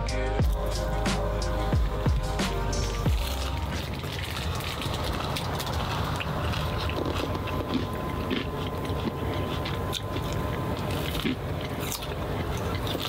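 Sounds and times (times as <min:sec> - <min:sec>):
steady low hum: 0:00.0 - 0:13.0
person chewing: 0:00.4 - 0:13.0.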